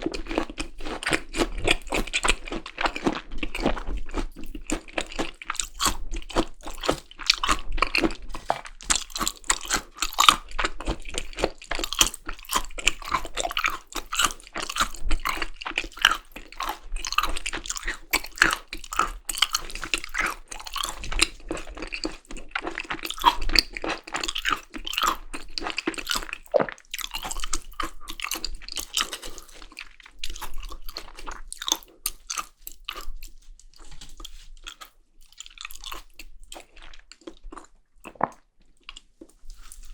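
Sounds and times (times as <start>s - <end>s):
chewing with wet mouth clicks: 0.0s - 39.9s.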